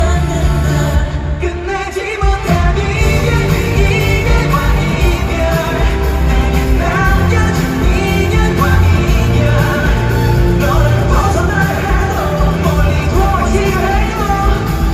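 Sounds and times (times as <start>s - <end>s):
pop song with male vocal: 0.0s - 14.9s.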